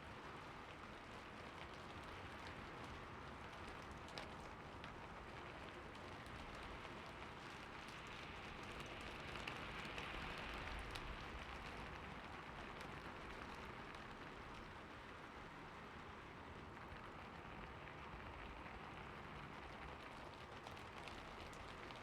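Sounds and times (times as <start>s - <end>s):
rain falling: 0.1s - 22.0s.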